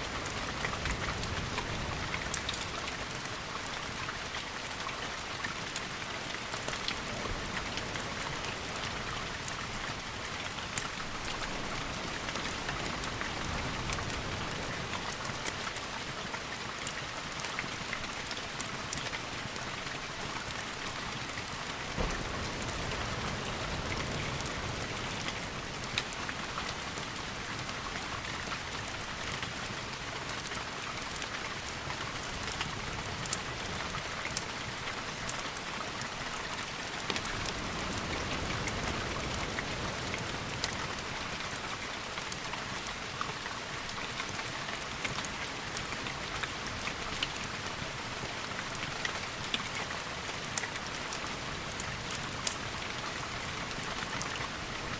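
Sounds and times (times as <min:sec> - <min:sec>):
raindrops ticking: 0:00.0 - 0:54.9
rainfall hiss: 0:00.0 - 0:54.9.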